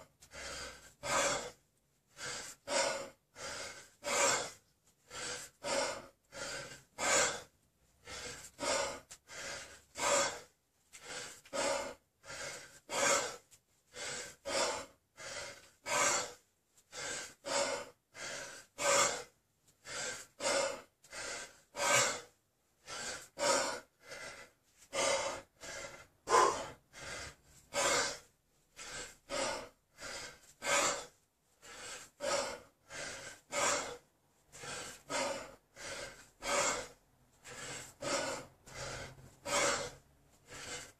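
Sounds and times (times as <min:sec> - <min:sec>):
man breathing hard: 0:00.0 - 0:40.9.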